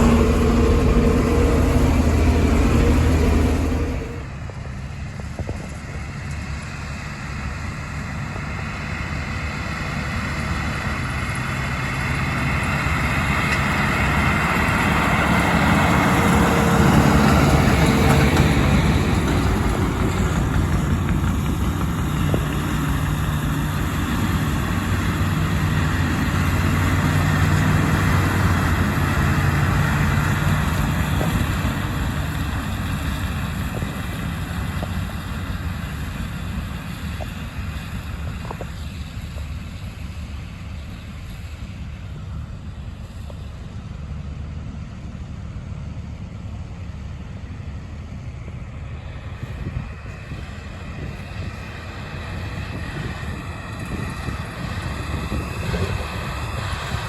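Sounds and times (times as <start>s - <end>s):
tractor engine under load: 0.0s - 8.0s, 9.1s - 57.0s.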